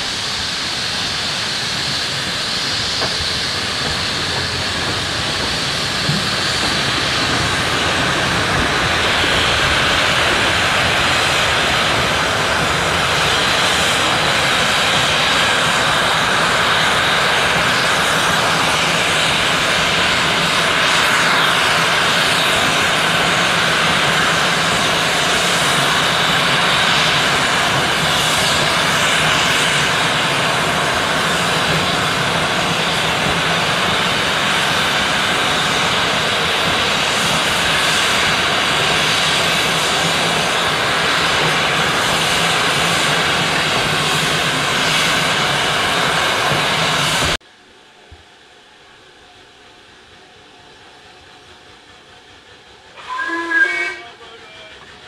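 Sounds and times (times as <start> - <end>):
steam hissing and roaring: 0.0 - 47.4, 48.4 - 55.0.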